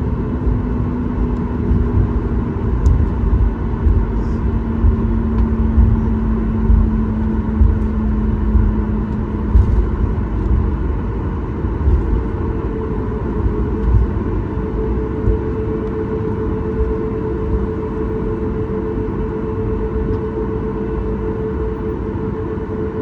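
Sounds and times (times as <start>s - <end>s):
aircraft cabin rumble with jolts: 0.0s - 23.0s
jet engine tone: 0.0s - 23.0s.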